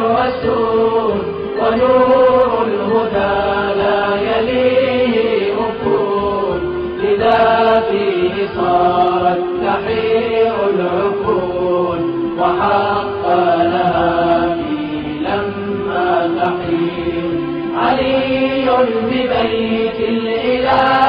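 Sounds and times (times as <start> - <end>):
person chanting a devotional song: 0.0 - 21.0.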